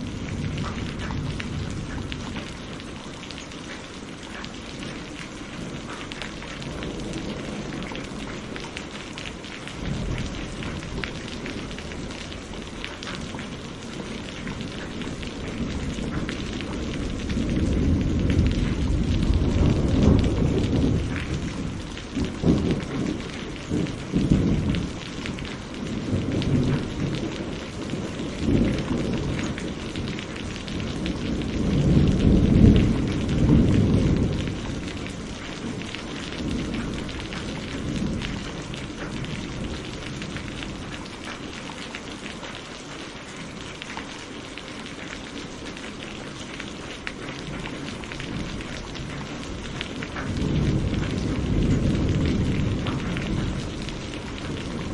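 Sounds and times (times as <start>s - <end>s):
rolling thunder: 0.0s - 3.0s, 4.8s - 41.4s, 47.1s - 54.9s
steady rain: 0.0s - 54.9s.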